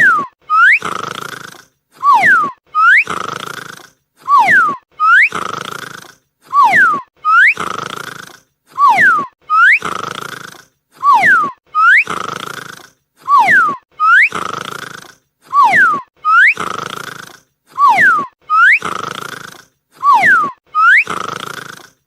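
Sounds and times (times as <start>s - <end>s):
dog snoring with whistles: 0.0s - 22.0s.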